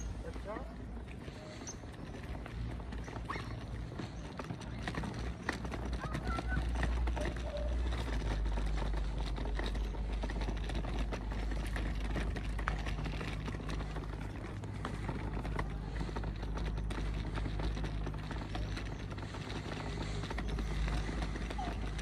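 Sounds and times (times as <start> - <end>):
footsteps on stone paving: 0.0 - 22.0.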